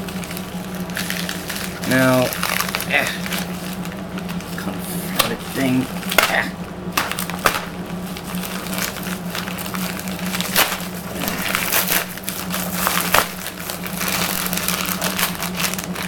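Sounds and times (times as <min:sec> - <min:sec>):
package tearing and crinkling: 0:00.0 - 0:16.0.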